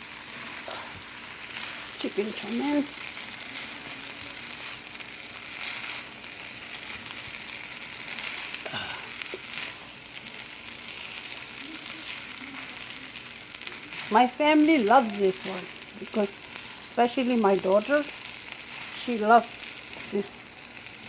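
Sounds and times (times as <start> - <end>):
noodles sizzling in a pan: 0.0 - 21.0
tongs clicking and scraping: 2.7 - 20.2.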